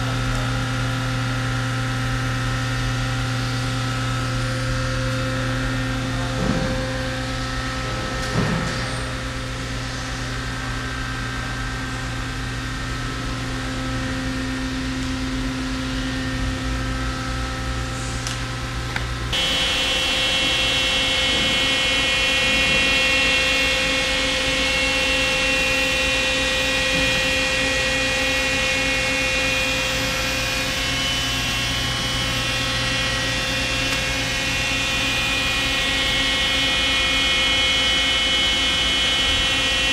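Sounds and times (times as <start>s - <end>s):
high-pitched machine whine: 0.0s - 39.9s
lathe machinery hum: 0.0s - 39.9s.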